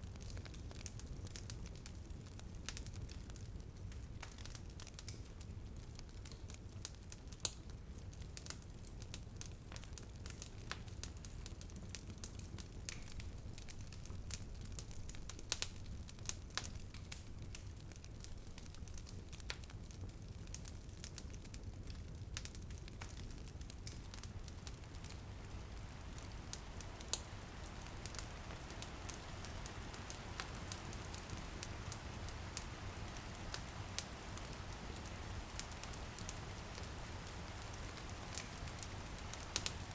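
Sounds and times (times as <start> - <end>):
rain pattering on a window: 0.0 - 39.9
wood fire crackling and popping: 0.0 - 39.9.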